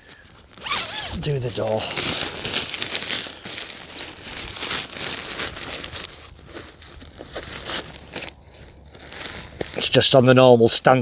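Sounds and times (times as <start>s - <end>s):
tent fabric rustling and crinkling: 0.0s - 11.0s.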